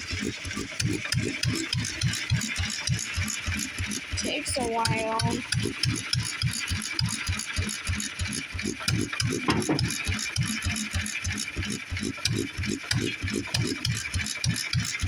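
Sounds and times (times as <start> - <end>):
stationary engine running: 0.0 - 15.0.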